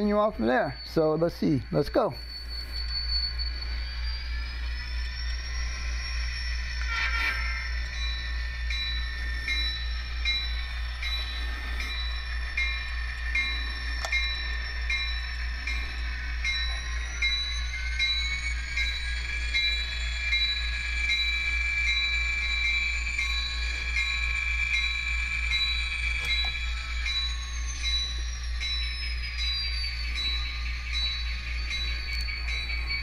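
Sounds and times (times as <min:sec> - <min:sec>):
high whine rising: 0:00.0 - 0:33.0
model train locomotive hum: 0:00.0 - 0:33.0
pulsing high tones: 0:00.0 - 0:33.0.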